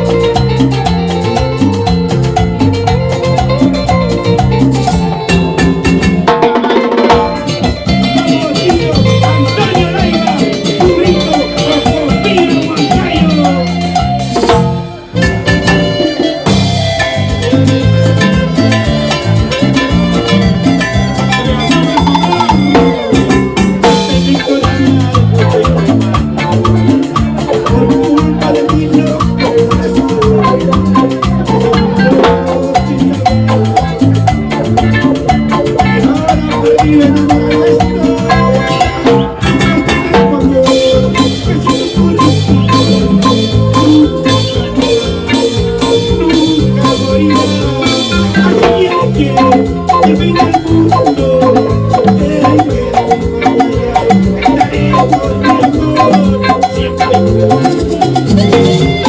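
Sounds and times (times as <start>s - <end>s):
bass: 0.0s - 59.0s
bright melodic lead: 0.0s - 59.0s
latin dance band playing: 0.0s - 59.0s
percussion rhythm: 0.0s - 59.0s.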